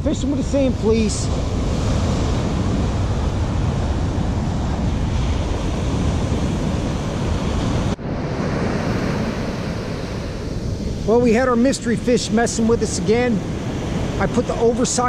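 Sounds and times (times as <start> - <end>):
rough ocean surf breaking: 0.0 - 15.0
wind buffeting microphone: 0.0 - 15.0.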